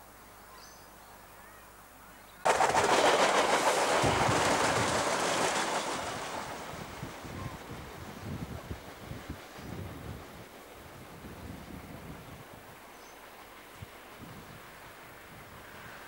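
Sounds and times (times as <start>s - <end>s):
diesel railcar passing: 2.4s - 16.0s.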